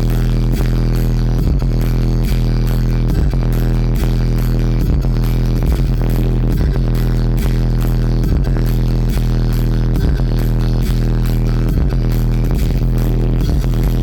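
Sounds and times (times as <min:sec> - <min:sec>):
bass-heavy hip-hop music: 0:00.0 - 0:14.0.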